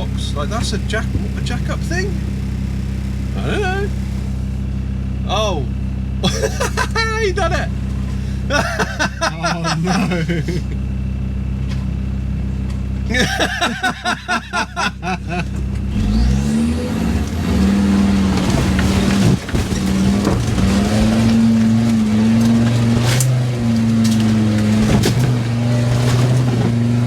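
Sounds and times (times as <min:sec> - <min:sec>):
engine idling and revving: 0:00.0 - 0:27.0.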